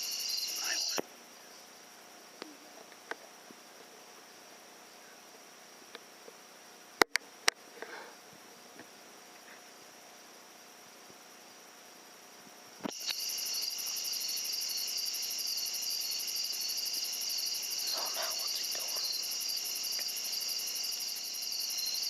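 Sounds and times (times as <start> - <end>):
crickets chirping at night: 0.0 - 22.0.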